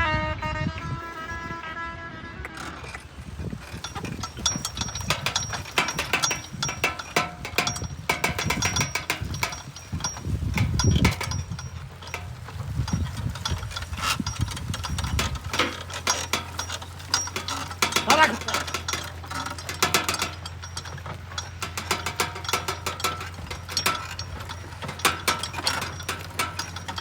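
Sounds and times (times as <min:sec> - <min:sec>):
seed drill rattling and clicking: 0:02.5 - 0:27.0.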